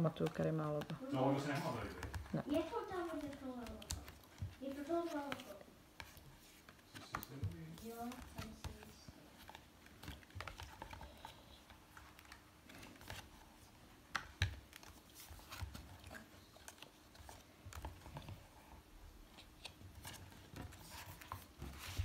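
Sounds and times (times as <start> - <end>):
cardboard pages turning: 0.1 - 22.0.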